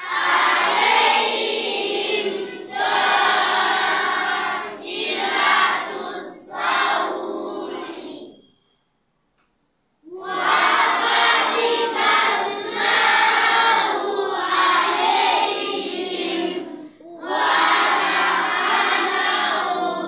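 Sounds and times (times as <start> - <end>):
boys chanting in unison: 0.0 - 8.3, 10.1 - 20.0.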